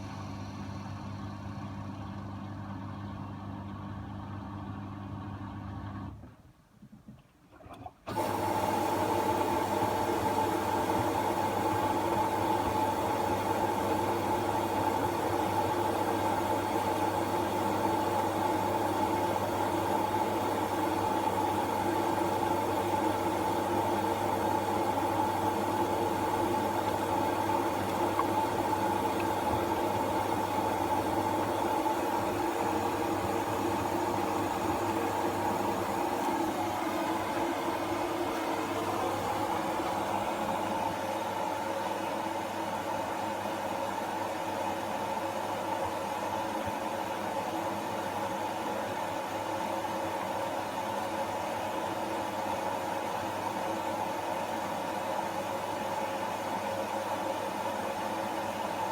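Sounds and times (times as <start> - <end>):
washing machine humming and whining: 0.0 - 6.3, 7.6 - 58.9.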